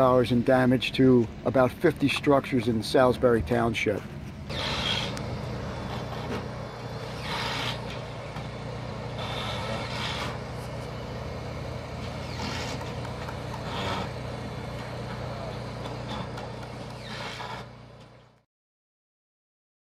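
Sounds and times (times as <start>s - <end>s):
engine running steadily: 0.0s - 18.4s.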